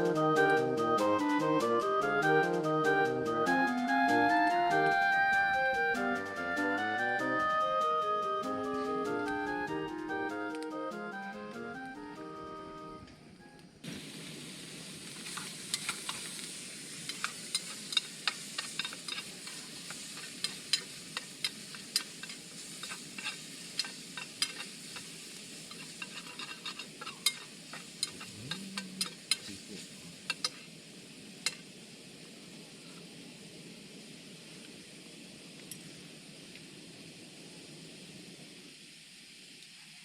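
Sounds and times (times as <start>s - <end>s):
food sizzling in a pan: 3.3s - 11.4s, 13.8s - 40.0s.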